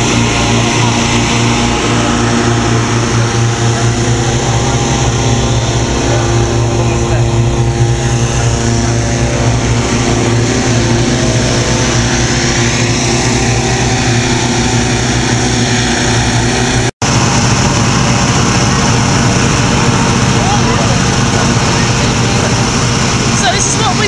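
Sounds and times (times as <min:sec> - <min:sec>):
inflator fan engine humming: 0:00.0 - 0:24.0.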